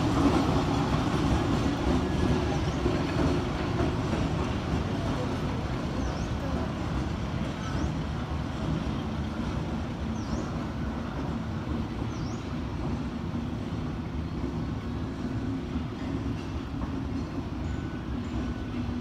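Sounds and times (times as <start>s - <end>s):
diesel locomotive engine rumbling: 0.0s - 19.0s.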